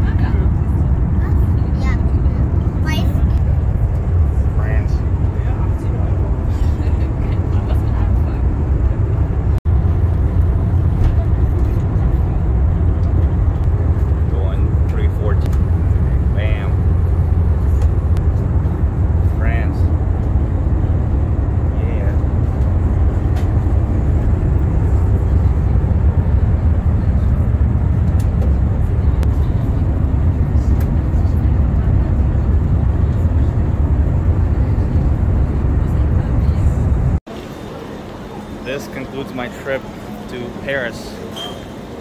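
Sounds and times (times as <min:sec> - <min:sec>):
train cabin rumble: 0:00.0 - 0:38.8
rushing air and track noise: 0:00.0 - 0:42.0.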